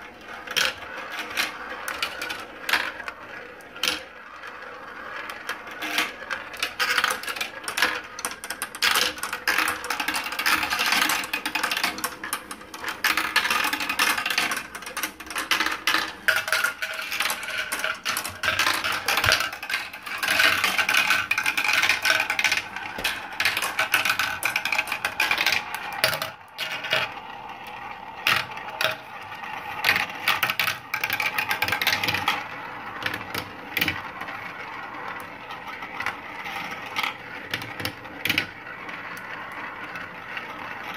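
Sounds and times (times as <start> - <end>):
marbles clicking against track: 0.0 - 40.9
marbles rolling in plastic run: 0.0 - 40.9.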